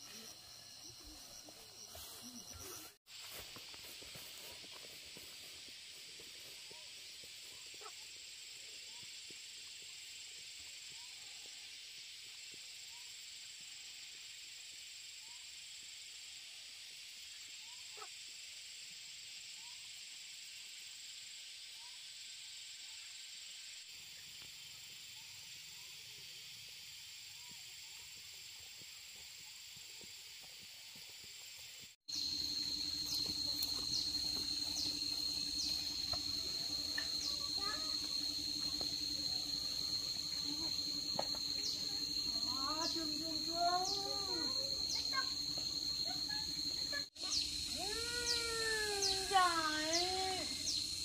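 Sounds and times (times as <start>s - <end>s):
insect chorus: 0.0s - 51.0s.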